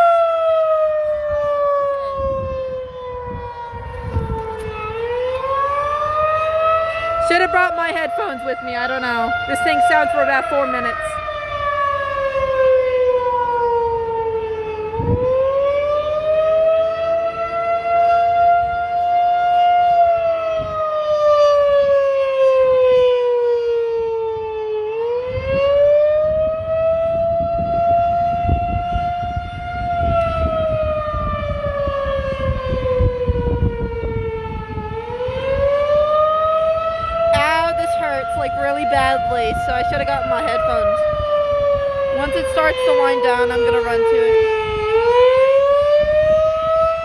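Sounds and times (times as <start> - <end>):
rotating warning siren: 0.0 - 47.0.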